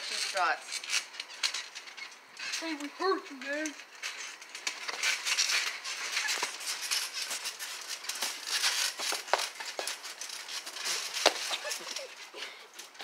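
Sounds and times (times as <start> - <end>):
trampoline springs rattling: 0.0 - 13.0
short squeaks: 0.1 - 2.8, 4.1 - 11.8.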